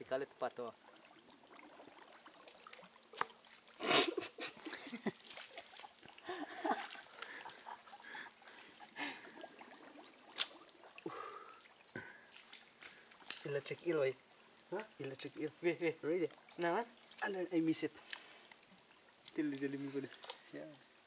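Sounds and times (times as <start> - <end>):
jungle insects droning: 0.0 - 21.0.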